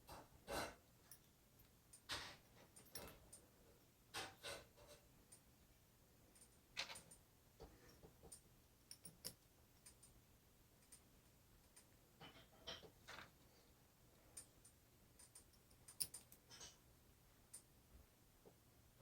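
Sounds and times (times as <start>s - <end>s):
faint clicks of small parts: 1.0s - 5.5s, 6.2s - 16.8s, 17.4s - 17.7s.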